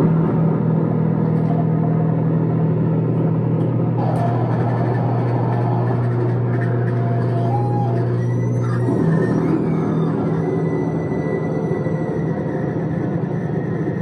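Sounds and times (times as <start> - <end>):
electronic noise drone: 0.0 - 14.0.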